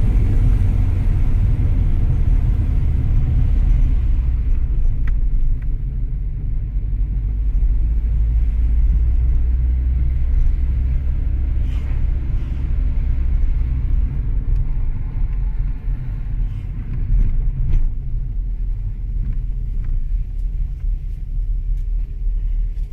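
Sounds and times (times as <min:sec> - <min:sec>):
car road rumble: 0:00.0 - 0:22.9.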